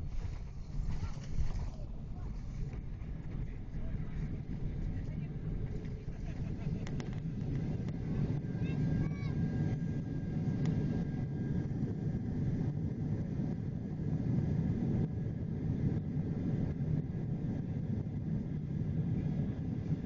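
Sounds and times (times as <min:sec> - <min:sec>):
airplane engines rumbling: 0:00.0 - 0:20.0.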